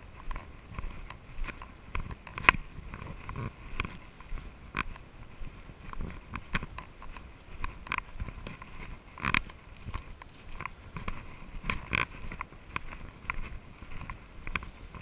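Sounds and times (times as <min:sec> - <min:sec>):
footsteps crunching on leaves: 0:00.0 - 0:15.0
low rumble of wind: 0:00.0 - 0:15.0.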